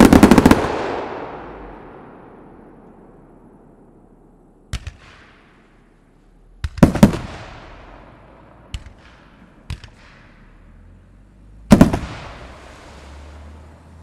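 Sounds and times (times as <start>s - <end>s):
fireworks bangs: 0.0s - 6.0s, 6.6s - 10.7s, 11.7s - 13.5s.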